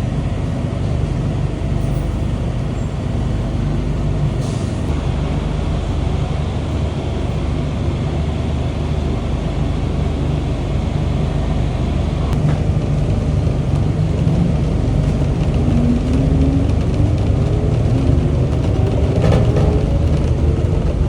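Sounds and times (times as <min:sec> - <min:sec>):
light rail train rumbling: 0:00.0 - 0:21.0.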